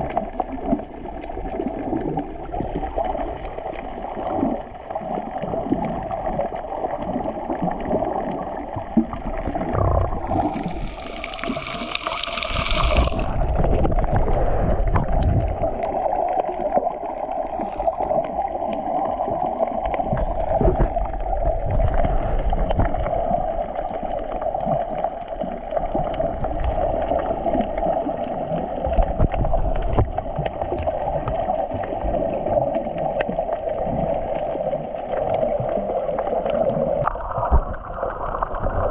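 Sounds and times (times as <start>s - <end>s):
water washing along hull: 0.0s - 38.9s.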